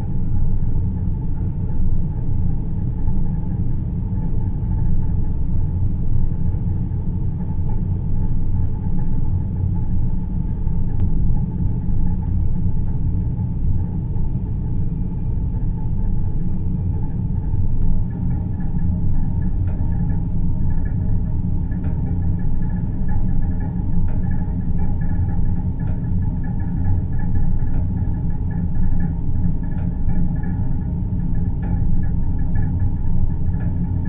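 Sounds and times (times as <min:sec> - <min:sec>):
deep rumbling drone: 0:00.0 - 0:34.0.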